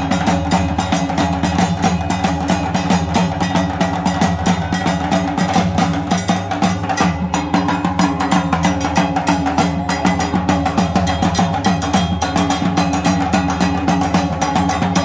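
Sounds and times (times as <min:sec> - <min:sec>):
barrel drums beating: 0:00.0 - 0:15.0.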